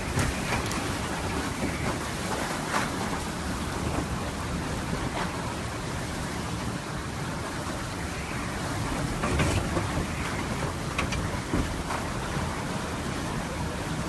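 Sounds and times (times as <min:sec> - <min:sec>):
hurricane wind and rain: 0:00.0 - 0:14.0
wind buffeting microphone: 0:00.0 - 0:14.0.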